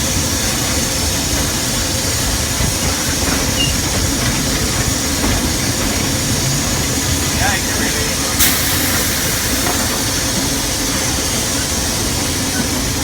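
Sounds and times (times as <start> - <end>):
locomotive rumble: 0.0 - 13.0
steam hissing: 0.0 - 13.0.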